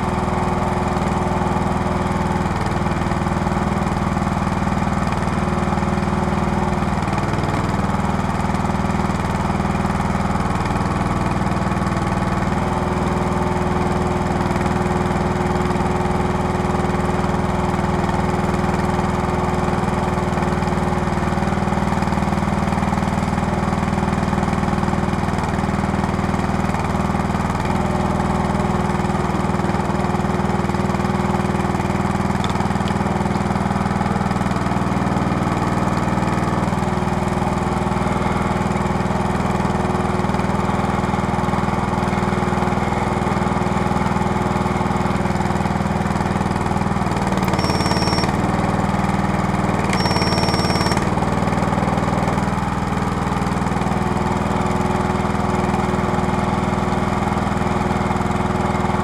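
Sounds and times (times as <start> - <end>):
small petrol engine running: 0.0 - 59.0.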